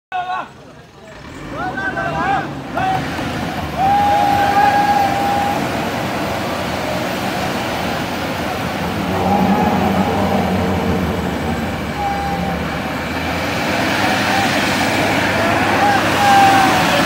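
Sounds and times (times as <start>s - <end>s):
vehicle engine rumbling: 0.4s - 17.0s
people calling out: 1.6s - 7.2s, 8.2s - 17.0s.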